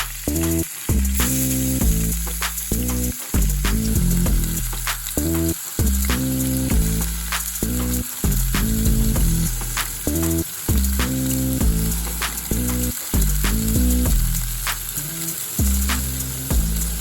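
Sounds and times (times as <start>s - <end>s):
steak sizzling in a frying pan: 0.0s - 17.0s.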